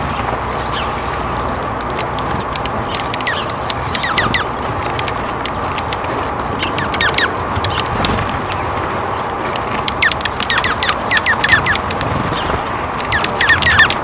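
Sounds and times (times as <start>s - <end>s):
small birds chirping: 0.0s - 14.0s
sharp ticks: 1.5s - 14.0s.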